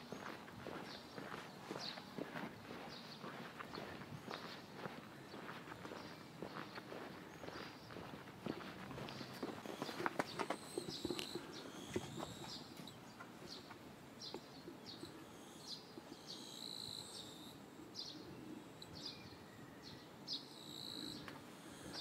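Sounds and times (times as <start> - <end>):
bird chirping: 0.0 - 22.0
faint background hum: 0.0 - 22.0.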